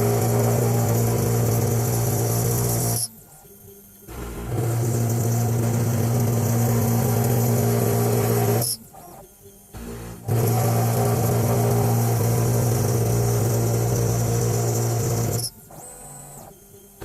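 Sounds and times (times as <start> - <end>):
cnc machine cutting plastic: 0.0 - 17.0.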